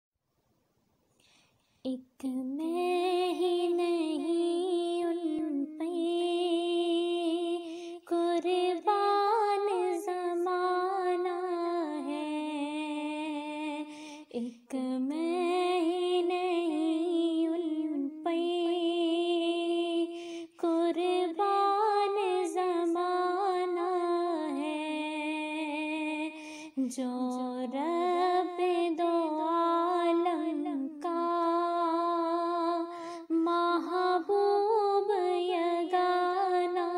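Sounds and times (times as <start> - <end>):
woman singing unaccompanied: 1.9 - 36.9.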